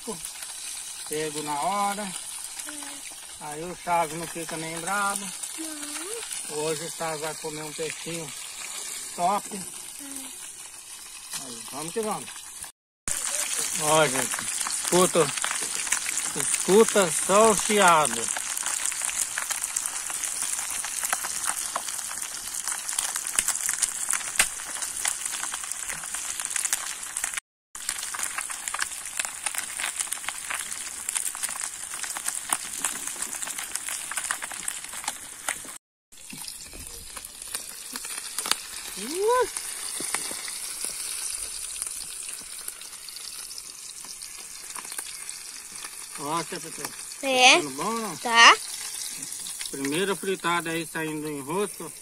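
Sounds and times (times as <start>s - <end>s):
fish deep-frying in oil: 0.0s - 52.0s
oil crackling and popping: 0.0s - 52.0s.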